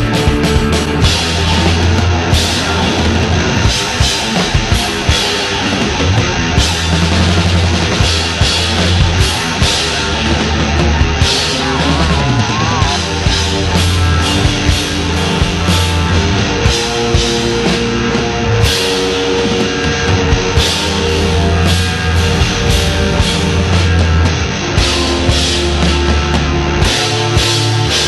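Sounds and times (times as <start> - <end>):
heavy bass: 0.0 - 28.0
noise rock music: 0.0 - 28.0
steady drum beat: 0.0 - 28.0.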